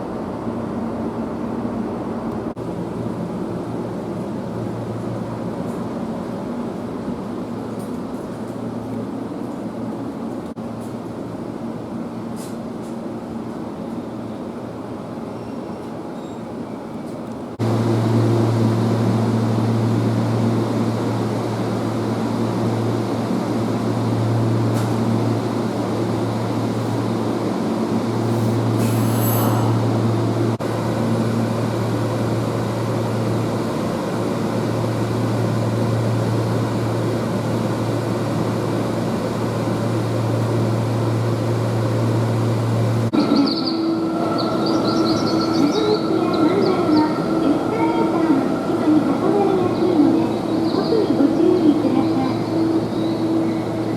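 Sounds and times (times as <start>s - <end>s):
electric train humming and running: 0.0s - 53.9s.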